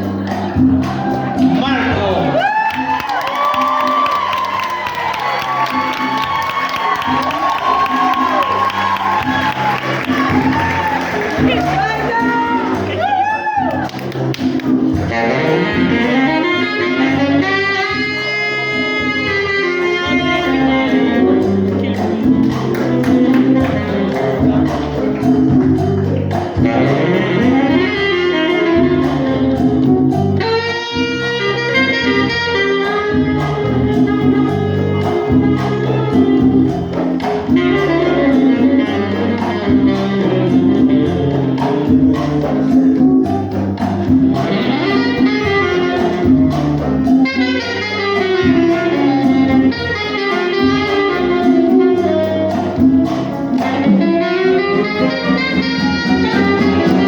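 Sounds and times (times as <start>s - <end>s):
latin band accompaniment: 0.0s - 57.0s
tenor saxophone solo: 1.7s - 25.8s, 26.4s - 57.0s.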